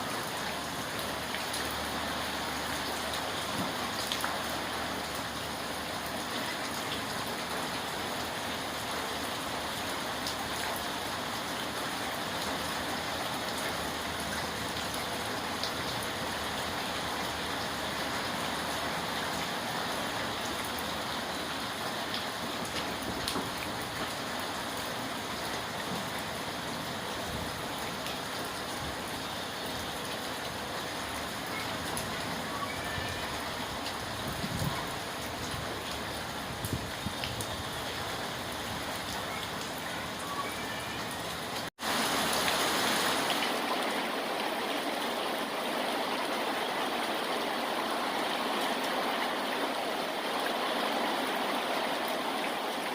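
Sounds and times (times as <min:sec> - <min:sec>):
steady rainfall hiss: 0:00.0 - 0:52.9.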